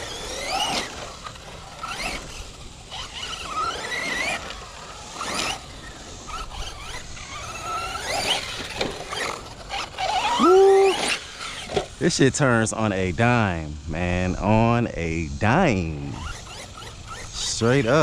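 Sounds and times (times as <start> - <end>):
rc truck electric motor whining: 0.0 - 18.0.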